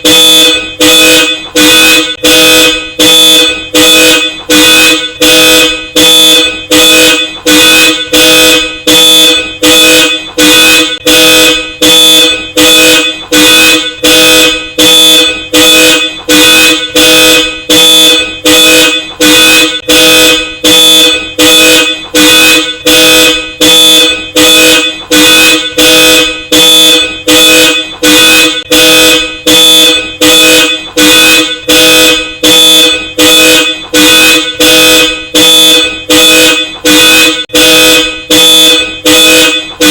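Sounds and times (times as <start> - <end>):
car alarm two-tone horn honks: 0.0 - 39.9.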